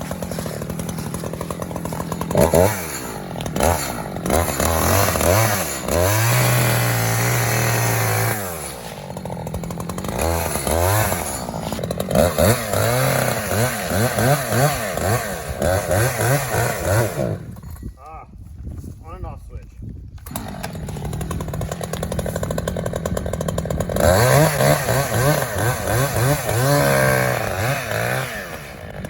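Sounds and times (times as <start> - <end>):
chainsaw revving: 0.0 - 17.8, 20.2 - 29.0.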